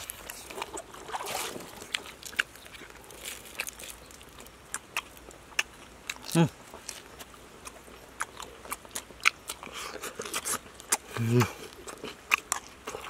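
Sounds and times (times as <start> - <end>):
lip smacks and chewing: 0.0 - 13.0.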